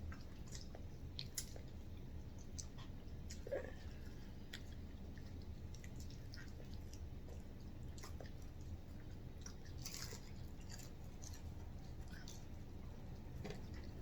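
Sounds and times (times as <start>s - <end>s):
chewing and mouth sounds: 0.0s - 14.0s
low steady hum: 0.0s - 14.0s.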